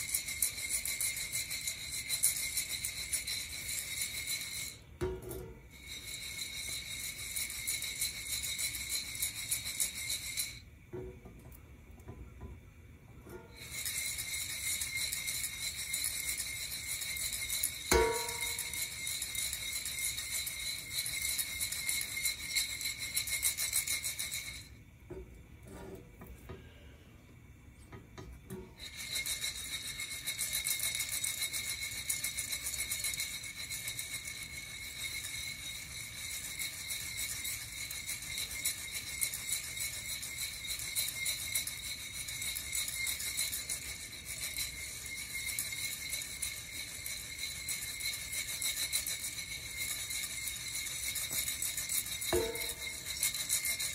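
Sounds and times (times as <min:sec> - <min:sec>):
coffee beans rattling in roaster: 0:00.0 - 0:11.6, 0:13.3 - 0:24.8, 0:28.5 - 0:53.9.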